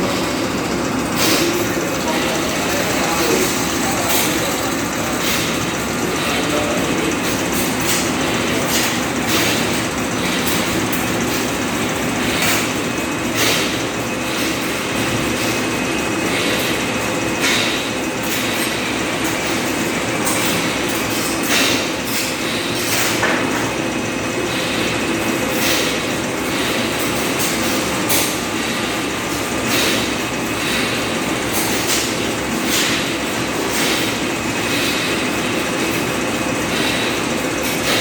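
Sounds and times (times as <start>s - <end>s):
machine running with mechanical rumble: 0.0s - 38.0s.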